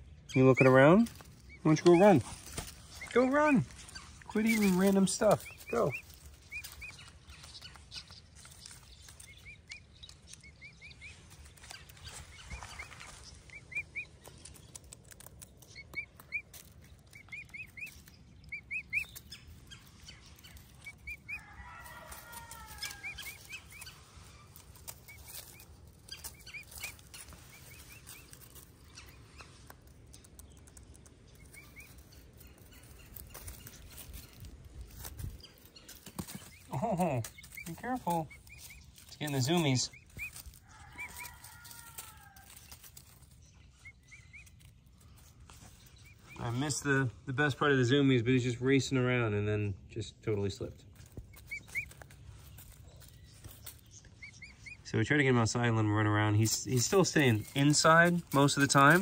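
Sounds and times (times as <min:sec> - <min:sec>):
emu chick peeping: 0:00.0 - 0:59.0
dry leaves rustling: 0:00.5 - 0:47.2, 0:50.5 - 0:59.0.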